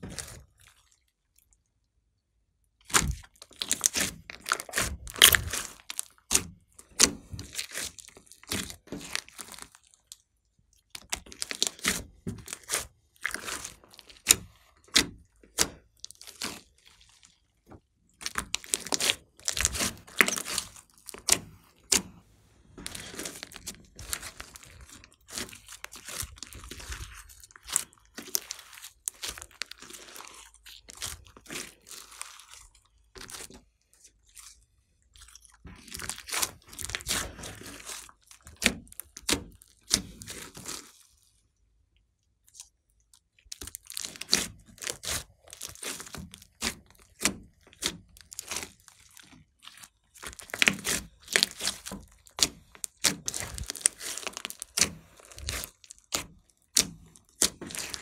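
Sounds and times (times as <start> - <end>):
slime squelching: 0.0 - 58.0.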